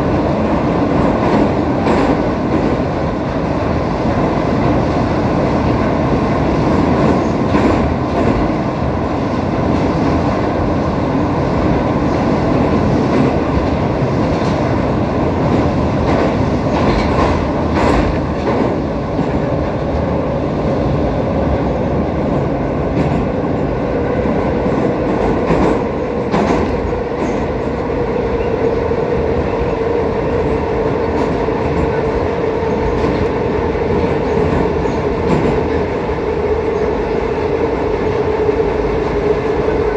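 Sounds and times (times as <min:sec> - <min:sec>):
metro train rumbling in tunnel: 0:00.0 - 0:39.9.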